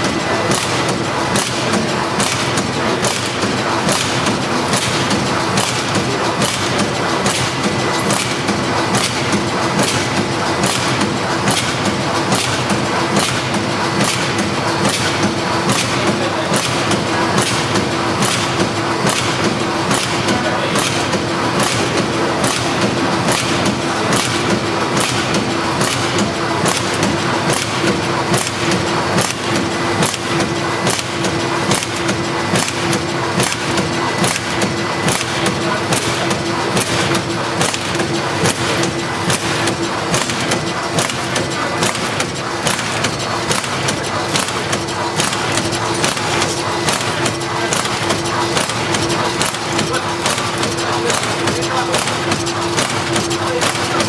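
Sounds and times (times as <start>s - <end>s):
packaging machine humming: 0.0s - 54.0s
regular machine clacking: 0.0s - 54.0s.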